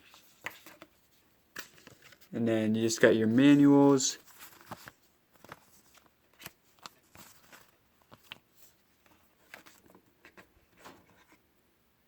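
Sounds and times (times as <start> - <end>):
paper and cardboard rustling: 0.0 - 11.4.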